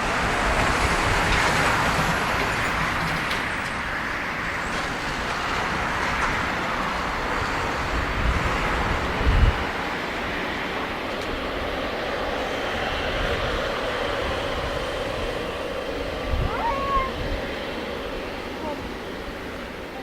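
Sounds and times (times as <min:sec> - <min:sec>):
jet engine rushing: 0:00.0 - 0:20.0.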